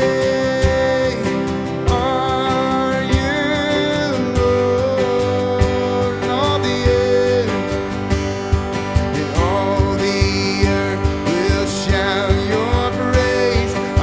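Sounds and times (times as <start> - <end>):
guitar: 0.0 - 14.0
steady drum beat: 0.0 - 14.0.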